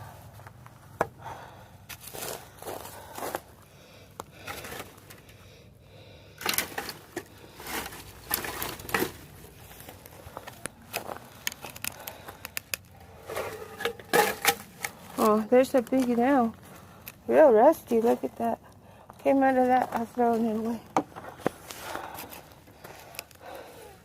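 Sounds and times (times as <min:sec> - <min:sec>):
scraping and rustling of wood: 0:00.2 - 0:03.6, 0:04.2 - 0:05.5, 0:06.4 - 0:18.3, 0:19.5 - 0:24.0.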